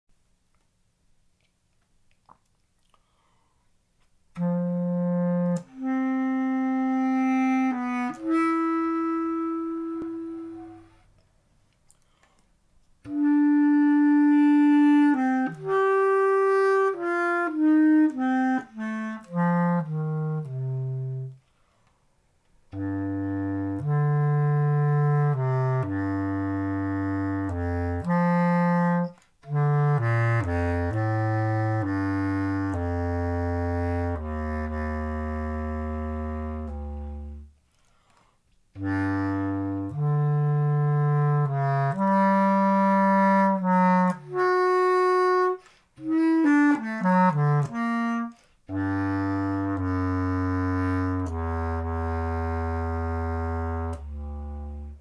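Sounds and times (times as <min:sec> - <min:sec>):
bass clarinet playing held notes: 0:04.4 - 0:11.1, 0:13.1 - 0:21.4, 0:22.7 - 0:37.5, 0:38.8 - 0:55.0.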